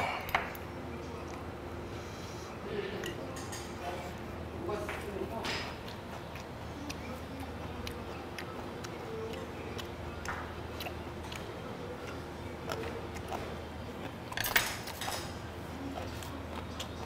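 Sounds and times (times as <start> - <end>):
chewing: 0.4 - 4.4, 5.6 - 17.0.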